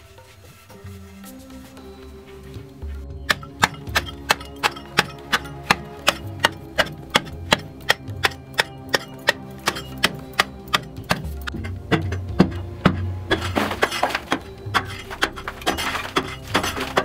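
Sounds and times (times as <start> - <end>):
background music: 0.0 - 17.0
hand hoe chipping into clay: 3.2 - 17.0.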